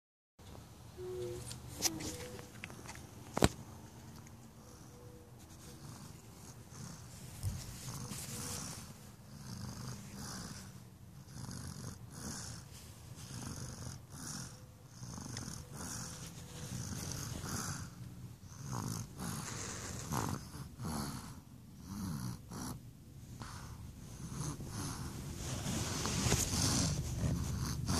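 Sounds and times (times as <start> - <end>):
snoring: 4.6 - 27.9.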